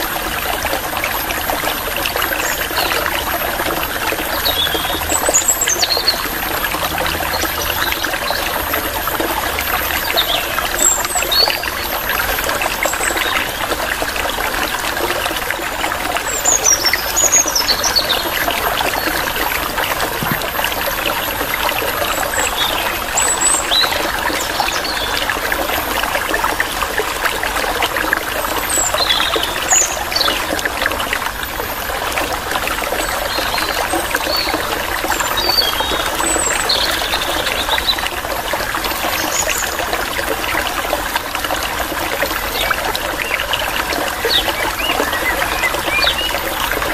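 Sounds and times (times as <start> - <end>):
water trickling: 0.0 - 46.9.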